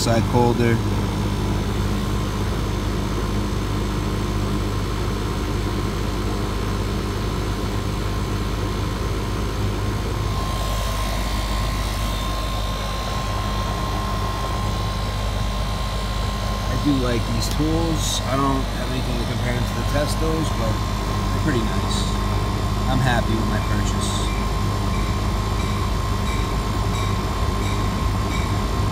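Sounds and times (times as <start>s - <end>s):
air conditioner unit humming: 0.0s - 28.9s.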